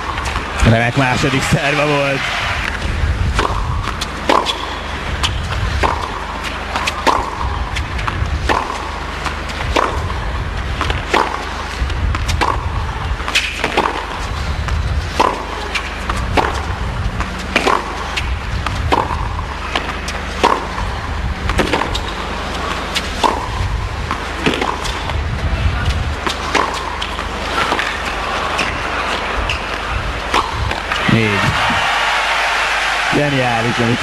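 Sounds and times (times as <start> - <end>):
steady low hum: 0.0 - 31.8
tennis ball hit by rackets: 2.6 - 10.2, 10.8 - 25.2, 25.8 - 31.1.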